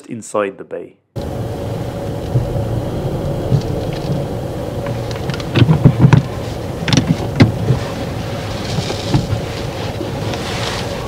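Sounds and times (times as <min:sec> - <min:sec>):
car engine idling: 0:01.2 - 0:11.0.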